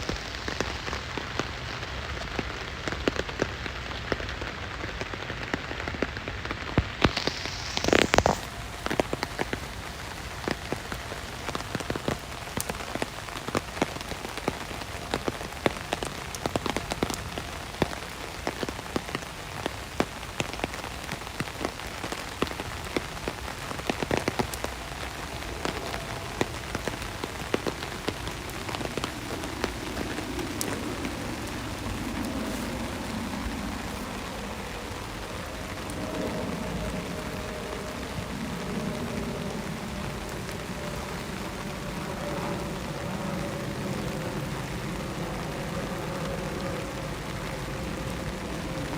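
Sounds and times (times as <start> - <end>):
raindrops ticking: 0.0 - 48.9
steady rain falling: 0.0 - 48.9.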